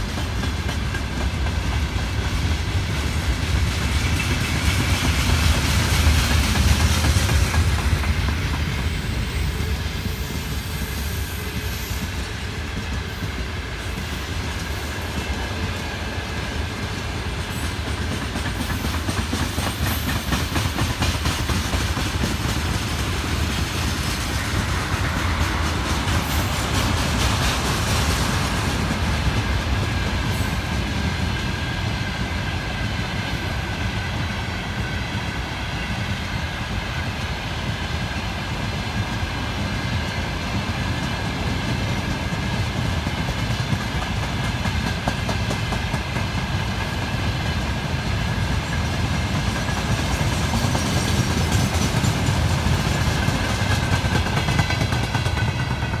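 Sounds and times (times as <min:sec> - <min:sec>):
clickety-clack of wheels: 0:00.0 - 0:56.0
train wheels rumbling on rails: 0:00.0 - 0:56.0.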